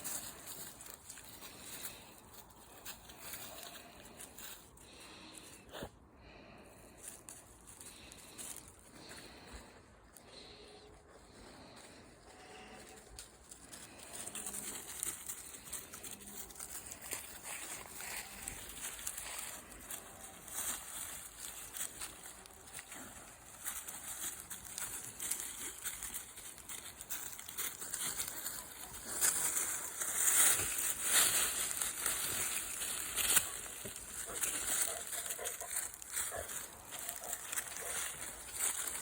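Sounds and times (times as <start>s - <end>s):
steps rustling through dry grass: 0.0s - 39.0s.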